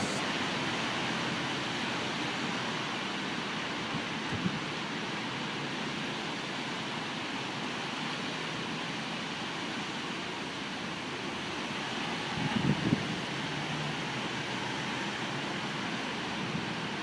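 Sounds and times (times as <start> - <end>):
wind and rain storm: 0.0 - 17.0.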